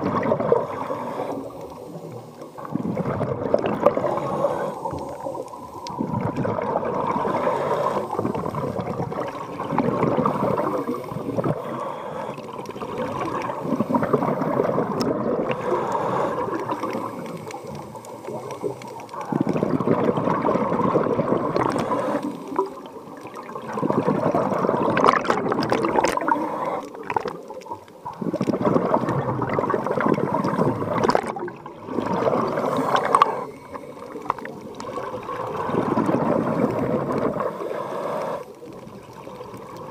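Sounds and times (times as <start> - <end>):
regulator bubbling underwater: 0.0 - 39.9.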